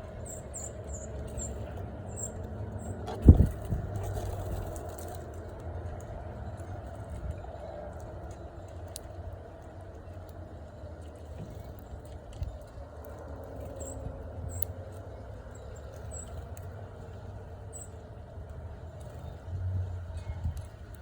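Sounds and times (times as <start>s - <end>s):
small birds chip calls: 0.0s - 21.0s.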